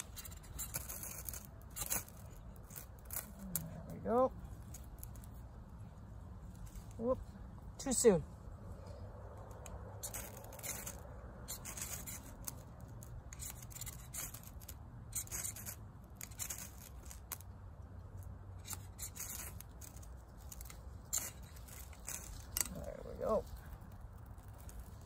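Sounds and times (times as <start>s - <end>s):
striker scraping ferro rod: 0.0s - 5.5s, 9.4s - 17.6s, 18.2s - 25.0s.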